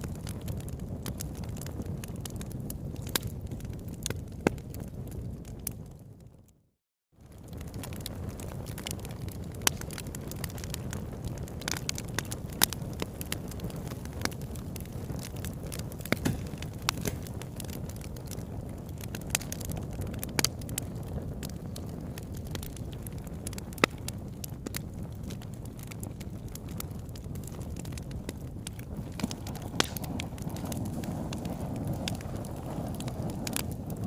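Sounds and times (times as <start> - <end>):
wood fire crackling: 0.0 - 6.6, 7.2 - 34.0.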